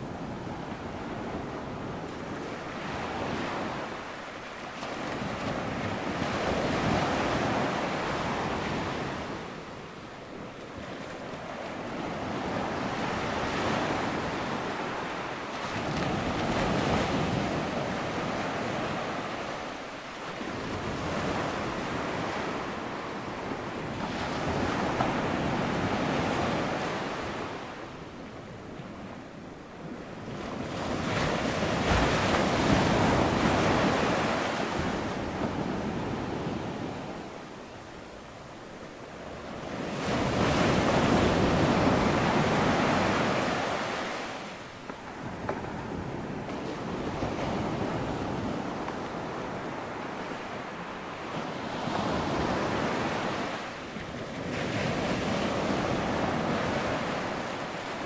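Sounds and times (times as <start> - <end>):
ocean waves breaking: 0.0 - 28.0, 29.8 - 58.0.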